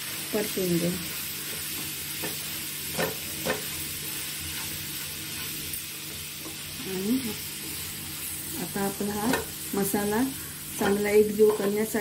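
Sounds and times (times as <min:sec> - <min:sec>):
masala sizzling in frying pan: 0:00.0 - 0:12.0
spatula stirring in pan: 0:01.0 - 0:12.0.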